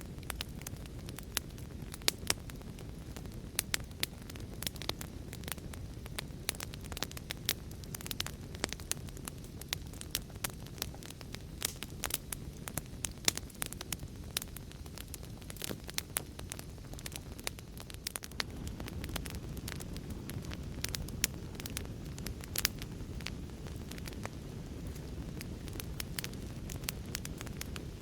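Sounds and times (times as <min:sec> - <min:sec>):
low rumble of burning: 0:00.0 - 0:28.0
wood fire popping and snapping: 0:00.0 - 0:28.0.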